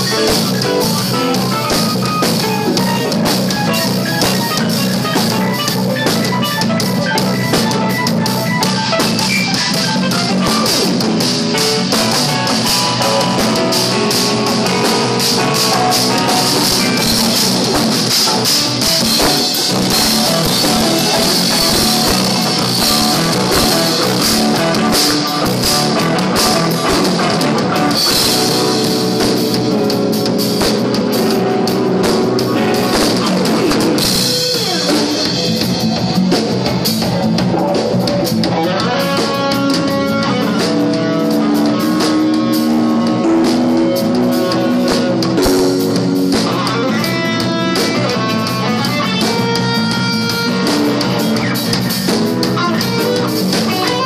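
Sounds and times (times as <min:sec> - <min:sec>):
drum kit with cymbals: 0:00.0 - 0:54.0
jazz-rock band playing: 0:00.0 - 0:54.0.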